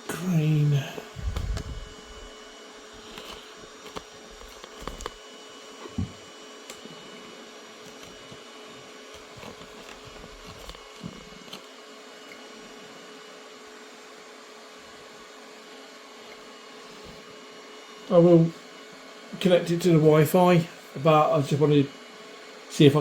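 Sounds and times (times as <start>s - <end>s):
printer hum with thin tone: 0.0s - 23.0s.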